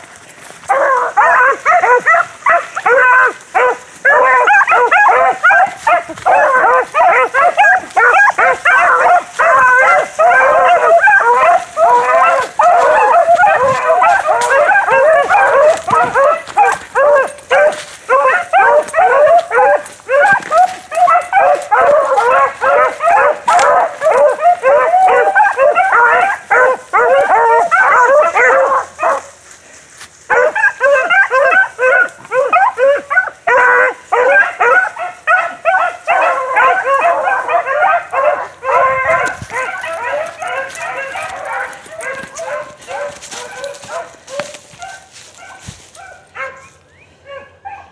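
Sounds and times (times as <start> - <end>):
dogs yipping and barking: 0.6 - 29.4, 30.3 - 47.9
pack of hounds baying: 0.6 - 29.5, 30.3 - 47.9.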